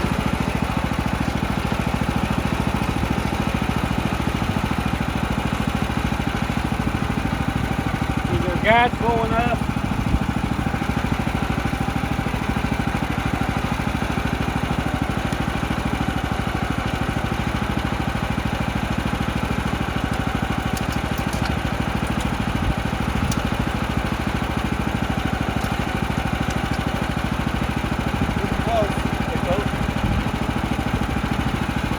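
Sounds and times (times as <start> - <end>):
small gas engine running: 0.0 - 31.9.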